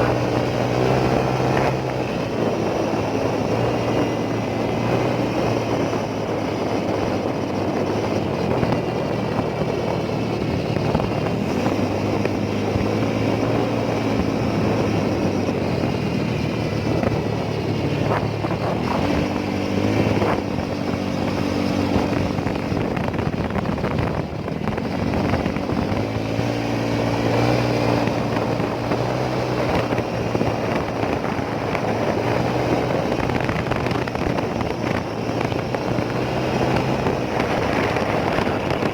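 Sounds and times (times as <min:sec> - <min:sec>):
motorcycle engine running: 0:00.0 - 0:38.9
road noise rush: 0:00.0 - 0:38.9.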